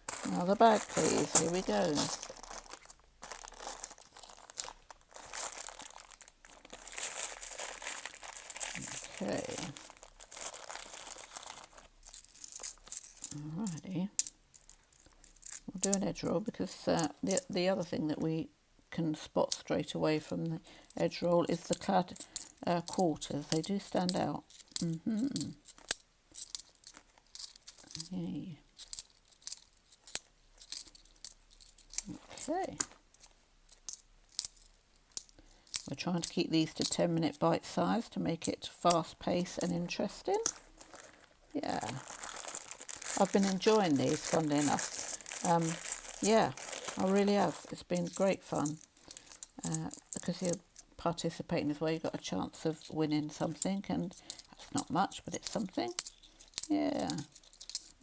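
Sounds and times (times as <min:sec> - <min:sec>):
plastic bag of coins crinkling: 0:00.0 - 0:16.0, 0:16.9 - 0:17.5, 0:20.7 - 0:28.2, 0:28.8 - 0:37.4, 0:38.4 - 0:50.9, 0:53.3 - 0:58.0.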